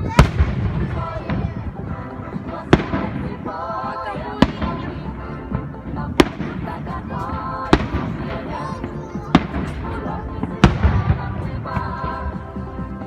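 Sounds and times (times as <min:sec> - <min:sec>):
fireworks bangs: 0:00.0 - 0:12.6
music: 0:00.0 - 0:13.0
voices: 0:00.0 - 0:13.0.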